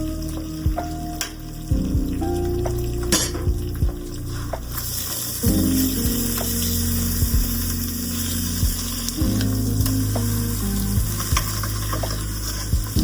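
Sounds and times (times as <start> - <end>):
crackling hiss: 0.0 - 13.0
sustained low music chords: 0.0 - 13.0.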